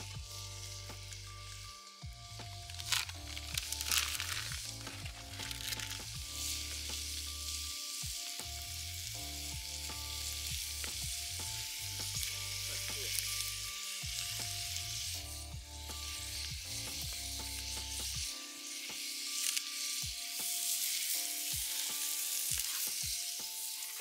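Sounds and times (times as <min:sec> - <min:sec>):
meat sizzling in a skillet: 0:00.0 - 0:24.0.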